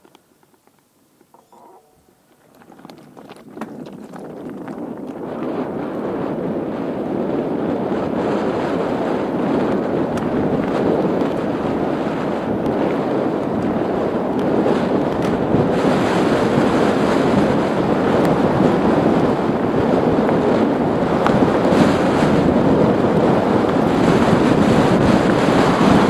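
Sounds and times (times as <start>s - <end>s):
tyres rushing on rough trail: 0.0s - 26.0s
wind buffeting microphone: 0.0s - 26.0s.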